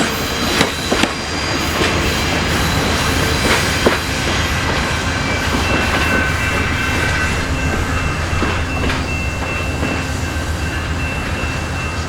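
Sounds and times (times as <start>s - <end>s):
train rumble: 0.0s - 12.0s
high-pitched wheel squeal: 0.2s - 12.0s.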